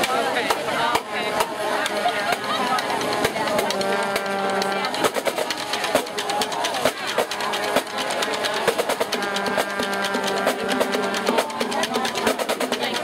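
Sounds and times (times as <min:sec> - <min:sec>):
crowd chatter: 0:00.0 - 0:13.0
marching drumline: 0:00.0 - 0:13.0.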